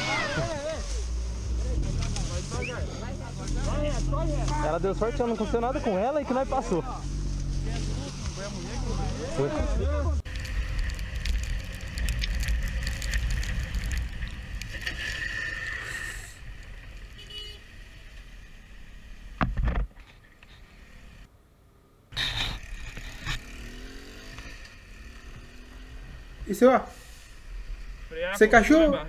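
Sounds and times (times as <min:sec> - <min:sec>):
motorcycle engine and road noise: 0:00.0 - 0:21.3, 0:22.1 - 0:29.0.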